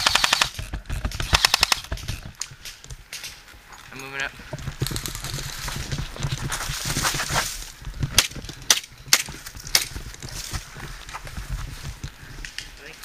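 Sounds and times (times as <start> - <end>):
rustling movement: 0.3 - 13.0.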